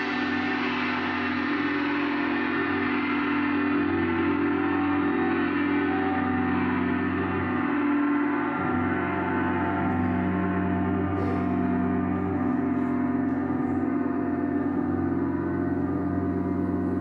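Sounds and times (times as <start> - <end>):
gong ringing: 0.0 - 17.0.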